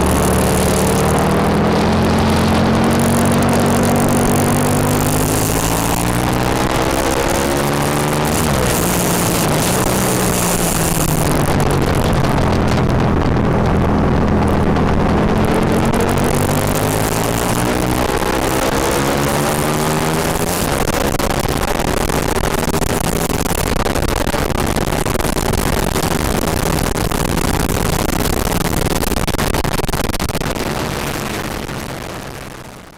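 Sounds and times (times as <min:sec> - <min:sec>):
motorcycle engine revving: 0:00.0 - 0:32.9
rushing wind noise: 0:00.0 - 0:32.9.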